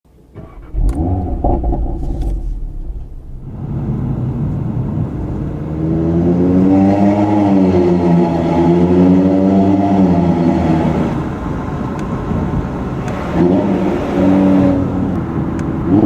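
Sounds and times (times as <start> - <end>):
car engine rumbling and revving: 0.1 - 16.0.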